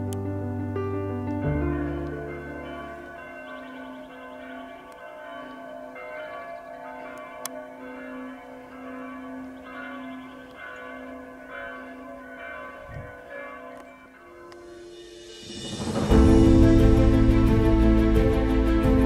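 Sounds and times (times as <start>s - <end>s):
church bells ringing: 1.4s - 19.0s.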